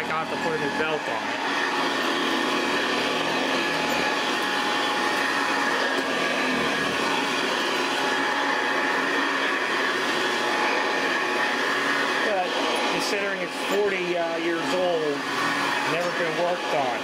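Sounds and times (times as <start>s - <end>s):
upright vacuum running on carpet: 0.0s - 17.0s.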